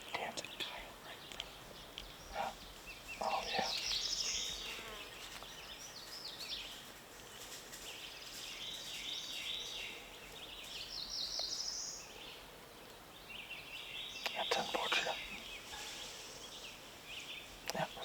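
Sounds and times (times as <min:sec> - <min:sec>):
faint woodland background noise: 0:00.0 - 0:18.0
songbirds chirping and trilling: 0:00.0 - 0:18.0.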